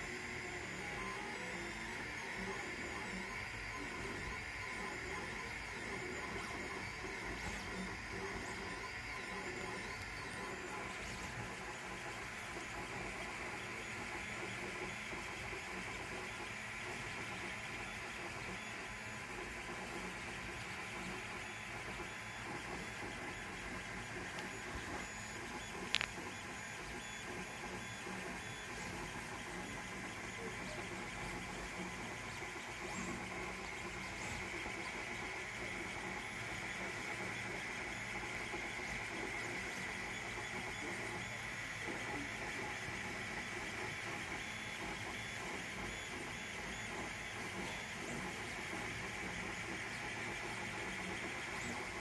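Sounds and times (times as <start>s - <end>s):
three d printer motors whirring: 0.0s - 52.0s.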